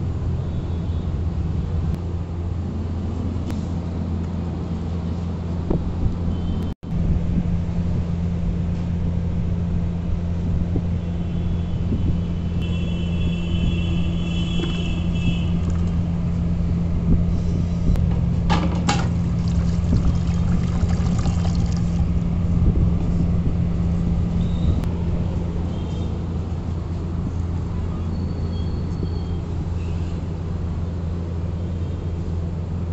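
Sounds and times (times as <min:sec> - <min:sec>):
low droning hum: 0:00.0 - 0:28.0.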